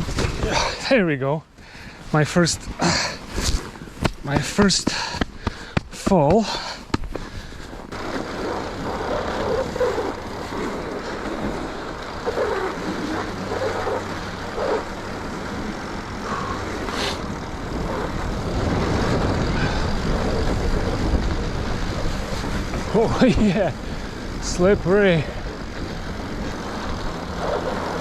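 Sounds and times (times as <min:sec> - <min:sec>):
wind noise: 0:00.0 - 0:01.0, 0:01.6 - 0:28.0
bike tyres rumbling on snow: 0:00.0 - 0:28.0.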